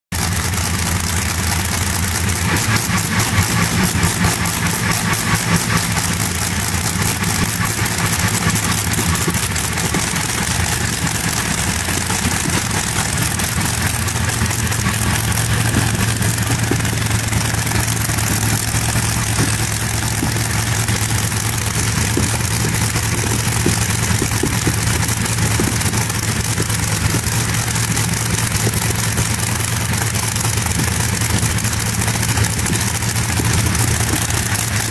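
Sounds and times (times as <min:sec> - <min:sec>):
aero engine idling: 0:00.1 - 0:34.9.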